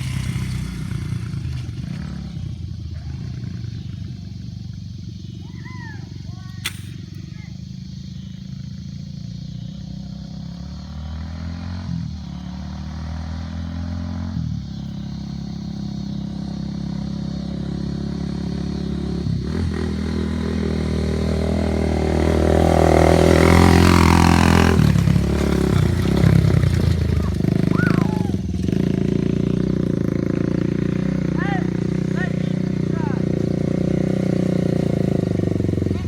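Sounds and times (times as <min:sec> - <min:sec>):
single-cylinder engine running: 0:00.0 - 0:10.7, 0:11.6 - 0:36.0.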